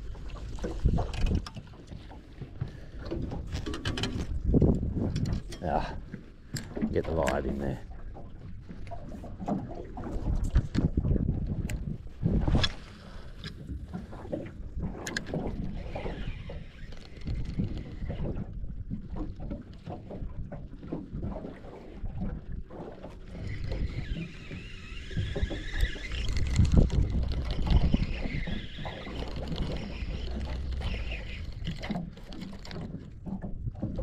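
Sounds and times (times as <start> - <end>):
wind on microphone: 0.0 - 1.7, 3.1 - 7.8, 9.7 - 34.0
water lapping against boat hull: 0.0 - 34.0.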